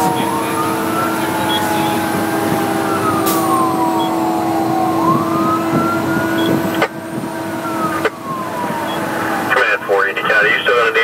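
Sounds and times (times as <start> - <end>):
fire engine siren wailing: 0.0 - 11.0
truck road noise: 0.0 - 11.0.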